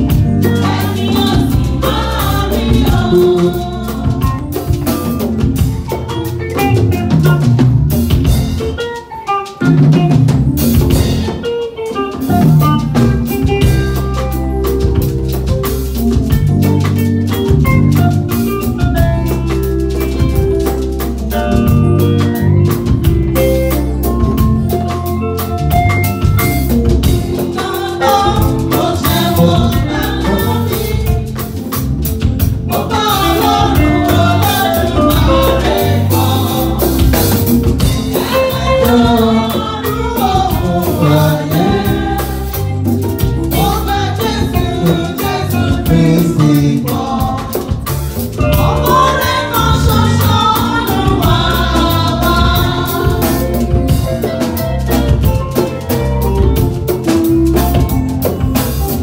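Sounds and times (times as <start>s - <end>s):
choir singing gospel: 0.0s - 8.6s, 10.5s - 59.0s
drums beat: 0.0s - 59.0s
keyboard: 0.0s - 59.0s.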